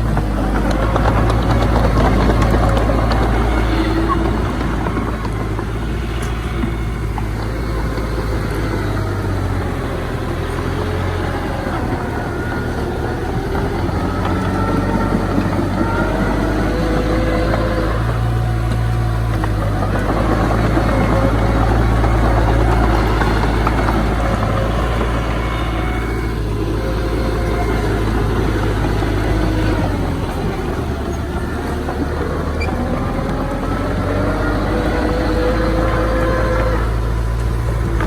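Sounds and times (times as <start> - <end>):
heavy machinery diesel engine droning: 0.0 - 38.0.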